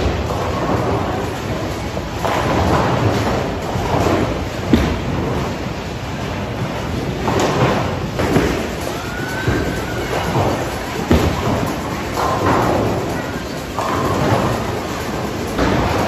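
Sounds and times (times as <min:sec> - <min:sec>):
bowling ball thud and roll: 0:00.0 - 0:16.0
bowling pins crashing: 0:00.0 - 0:16.0
rumble of balls and pins: 0:00.0 - 0:16.0.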